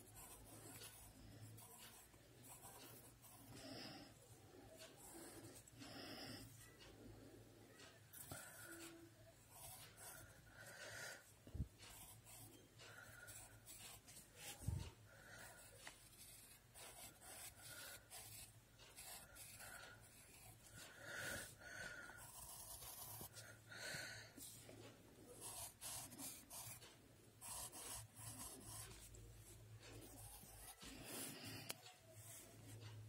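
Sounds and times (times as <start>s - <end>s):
pencil scratching on paper: 0.0s - 4.0s, 4.8s - 6.6s, 8.1s - 24.6s, 25.3s - 32.9s.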